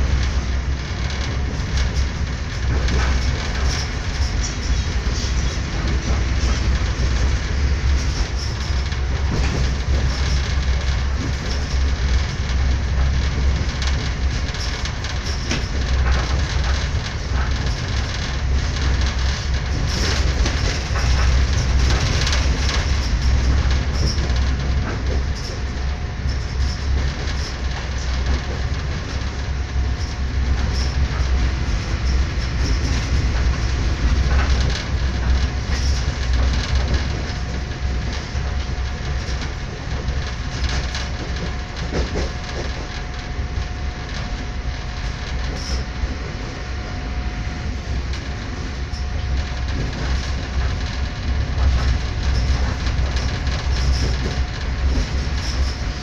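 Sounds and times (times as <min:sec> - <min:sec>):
clicks and knocks from track: 0:00.0 - 0:56.0
train wheels rumbling: 0:00.0 - 0:56.0.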